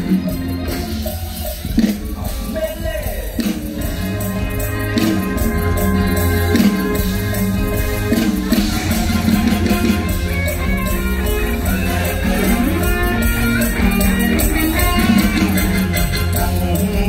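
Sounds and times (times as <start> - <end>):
live band music over a pa: 0.0 - 17.0.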